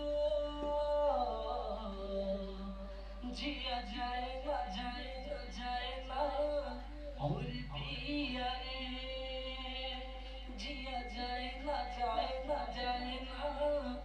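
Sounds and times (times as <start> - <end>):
processed solo singing voice: 0.0 - 14.0.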